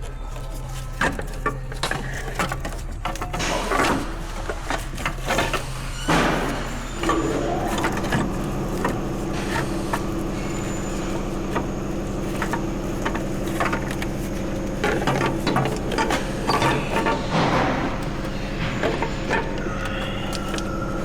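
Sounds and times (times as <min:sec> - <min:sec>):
light clicks and knocks: 0:00.0 - 0:21.0
machine hum: 0:00.0 - 0:21.0.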